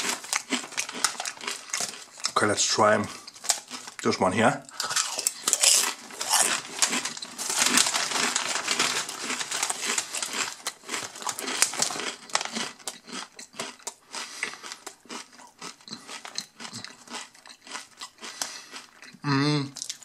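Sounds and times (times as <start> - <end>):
chip bag crinkling: 0.0 - 19.1, 19.7 - 20.0
chips crunching: 0.0 - 20.0.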